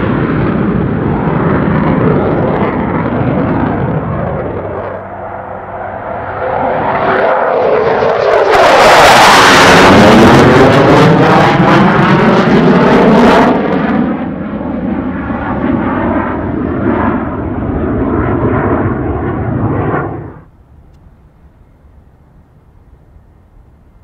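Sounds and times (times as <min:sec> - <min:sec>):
jet flying past: 0:00.0 - 0:24.0.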